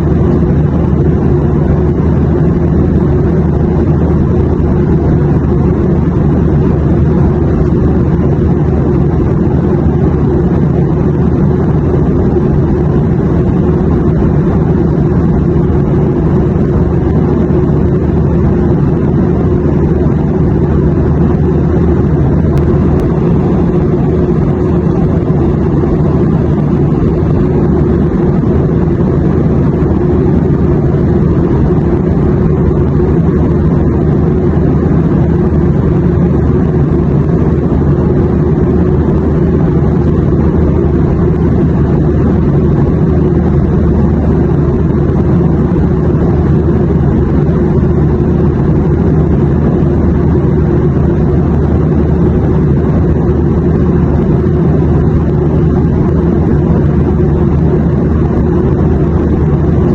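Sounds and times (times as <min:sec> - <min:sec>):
airplane rumble: 0:00.0 - 0:59.9.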